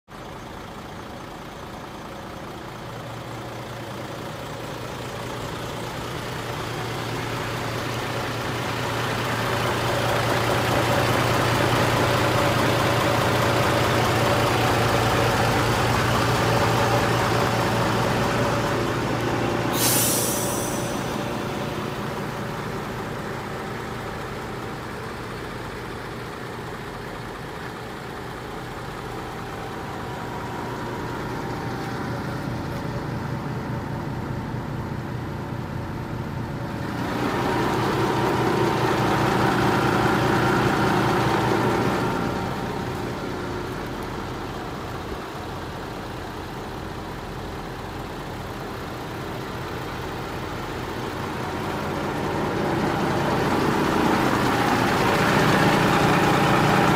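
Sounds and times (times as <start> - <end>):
diesel engine idling: 0.1 - 56.9.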